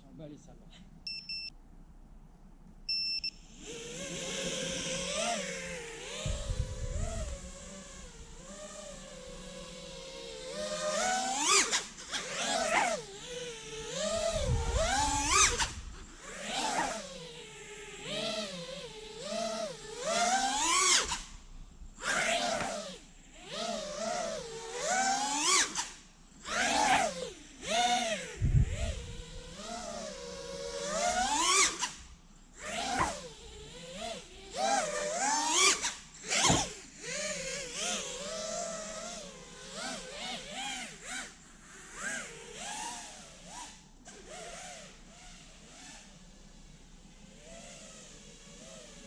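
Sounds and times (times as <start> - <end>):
drone motors whining: 2.6 - 49.0.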